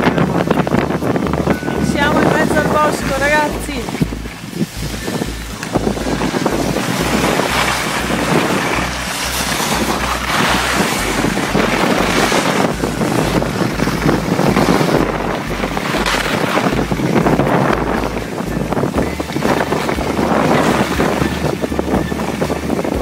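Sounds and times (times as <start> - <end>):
skis sliding on snow: 0.0 - 23.0
wind buffeting microphone: 0.0 - 23.0.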